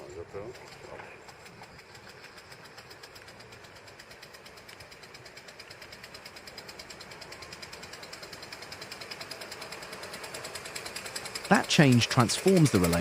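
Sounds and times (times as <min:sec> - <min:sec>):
engine clattering: 0:00.0 - 0:13.0.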